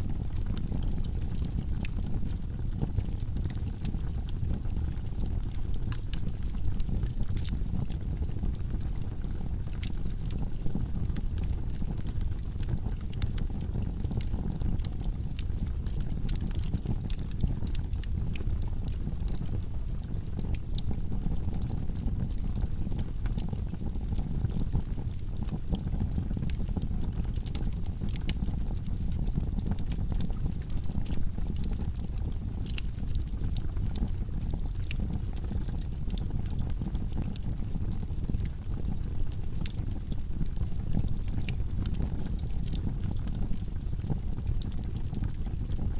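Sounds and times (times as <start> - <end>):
fire crackling and popping: 0.0 - 45.9
fire rumbling: 0.1 - 45.9.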